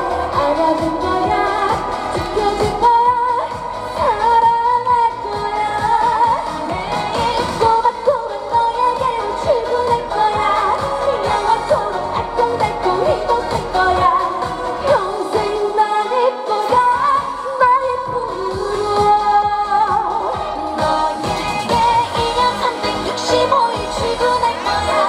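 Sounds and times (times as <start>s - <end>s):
backing track with dance beat: 0.0s - 25.0s
woman singing: 0.0s - 25.0s.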